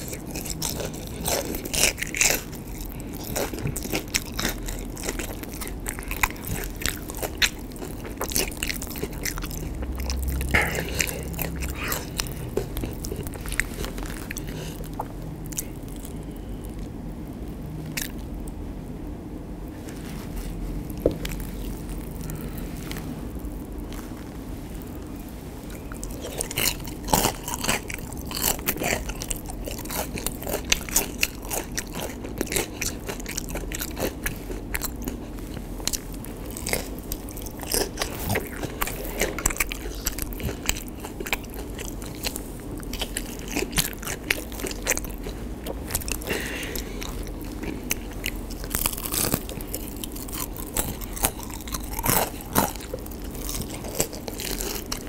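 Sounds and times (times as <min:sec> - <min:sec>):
crunching fried batter: 0:00.0 - 0:18.6, 0:19.8 - 0:55.0.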